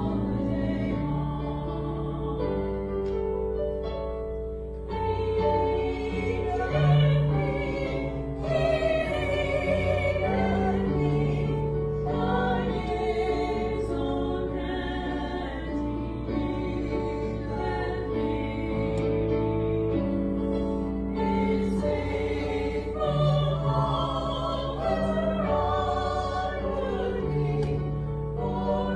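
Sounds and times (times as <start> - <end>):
choir singing with accompaniment: 0.0 - 28.9.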